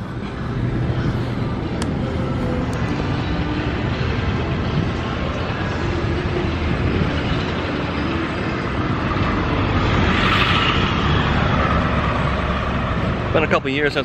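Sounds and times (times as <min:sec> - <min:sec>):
street traffic passing: 0:00.0 - 0:14.0.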